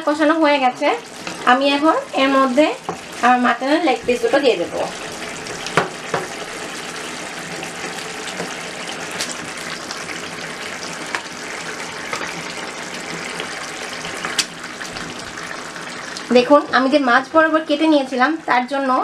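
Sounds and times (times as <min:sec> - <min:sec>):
gravy bubbling and sizzling in pot: 0:00.0 - 0:19.0.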